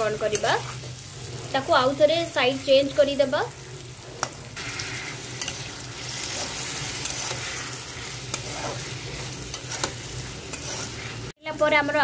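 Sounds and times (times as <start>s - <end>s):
metal spatula scraping a pan: 0.0s - 2.2s, 3.2s - 11.4s
potatoes sizzling in a pan: 0.0s - 12.0s.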